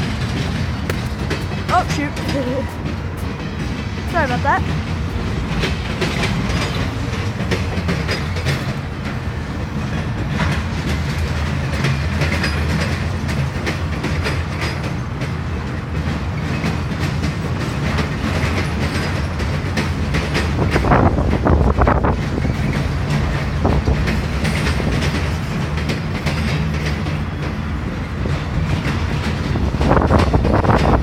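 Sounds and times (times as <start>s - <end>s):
freight train rumbling past: 0.0s - 31.0s
wheels clacking over rail joints: 0.0s - 31.0s.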